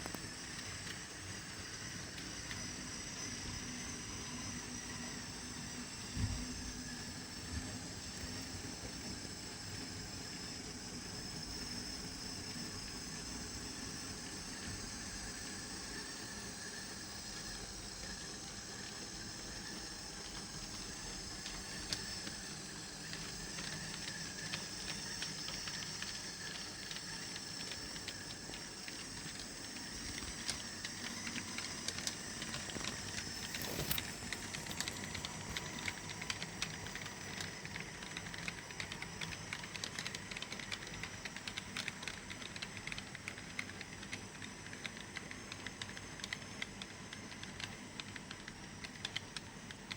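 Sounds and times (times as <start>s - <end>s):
model locomotive motor whirring: 0.0s - 49.9s.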